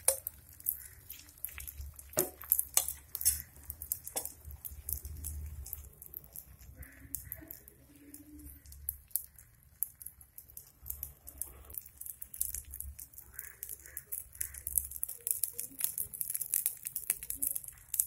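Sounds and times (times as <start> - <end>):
batter crackling and popping in oil: 0.0 - 18.0.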